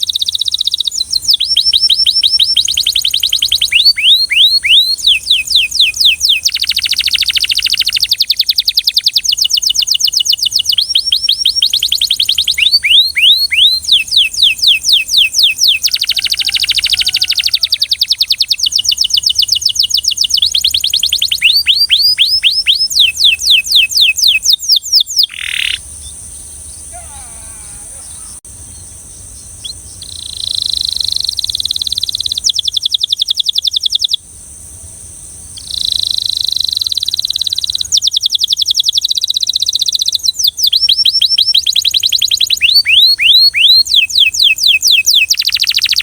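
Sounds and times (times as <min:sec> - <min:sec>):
canary singing trills: 0:00.0 - 0:34.2, 0:35.4 - 0:46.0.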